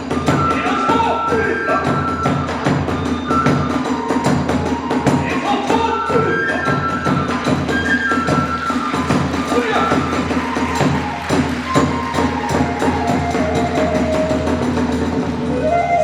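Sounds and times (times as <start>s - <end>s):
drums struck rapidly: 0.0s - 15.5s
bamboo flute with slides: 0.0s - 16.0s.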